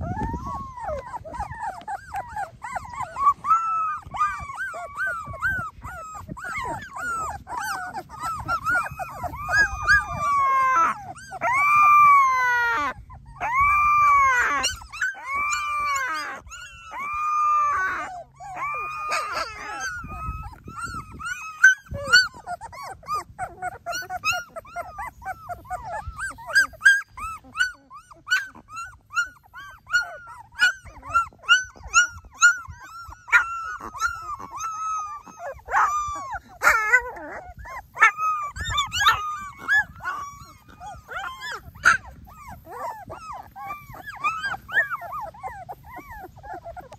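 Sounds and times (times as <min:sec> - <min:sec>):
puppies squeaking and yipping: 0:00.0 - 0:46.9
puppies whining and crying: 0:00.0 - 0:46.9.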